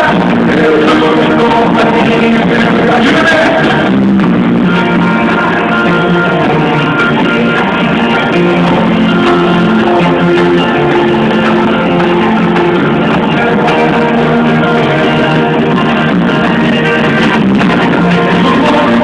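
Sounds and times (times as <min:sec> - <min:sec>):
muffled live band with guitars: 0:00.0 - 0:19.0.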